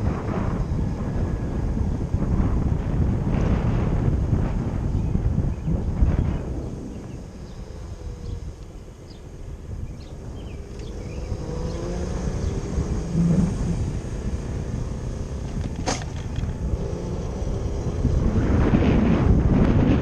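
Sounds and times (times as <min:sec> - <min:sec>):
electric motorcycle motor whine: 0:00.0 - 0:20.0
wind and road rumble: 0:00.0 - 0:20.0.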